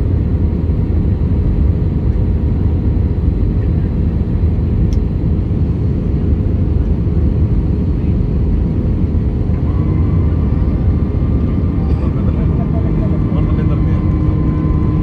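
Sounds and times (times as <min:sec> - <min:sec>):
jet engines: 0:00.0 - 0:15.0.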